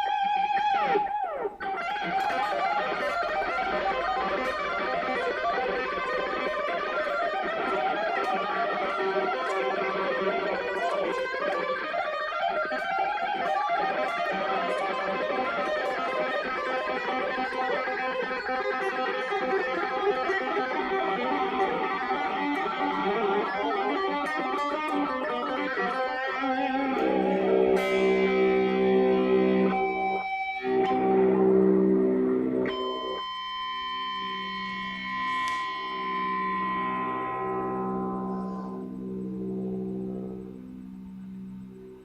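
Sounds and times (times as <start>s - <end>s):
electric guitar playing: 0.0s - 42.0s.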